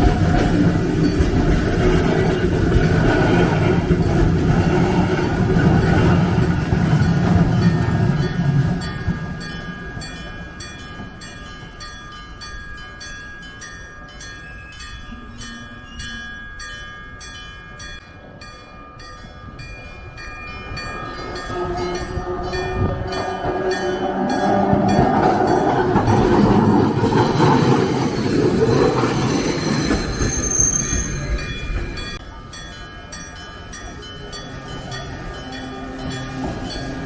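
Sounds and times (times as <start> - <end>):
train rumble: 0.0 - 12.8, 17.2 - 37.0.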